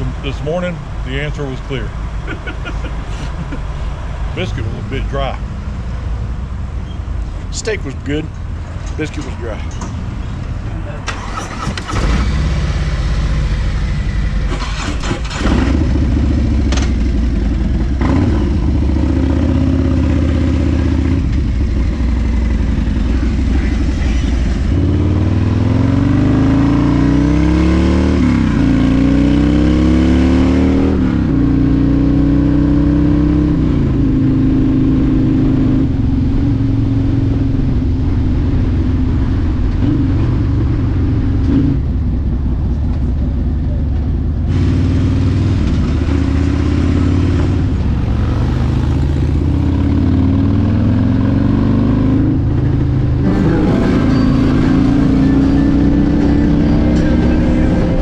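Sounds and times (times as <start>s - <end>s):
motorcycle engine shifting gears: 8.3s - 58.0s.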